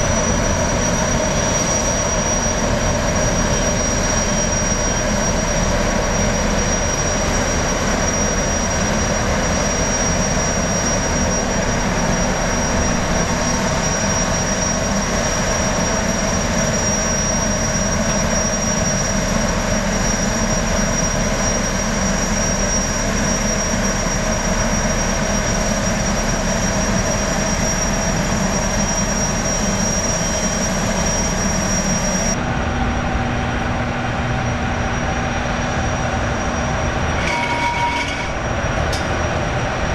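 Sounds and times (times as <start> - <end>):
gas turbines whining: 0.0 - 39.9.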